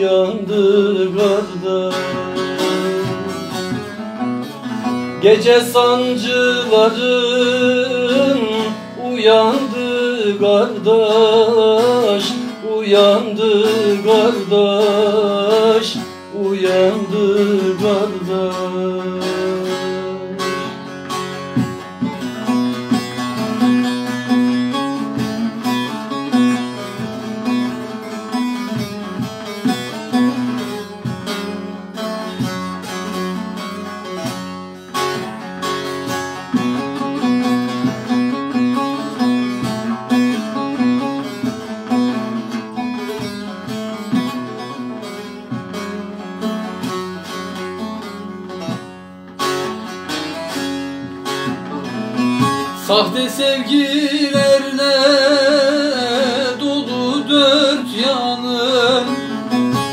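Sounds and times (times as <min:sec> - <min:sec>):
plucked lute melody with drone: 0:00.0 - 0:59.9.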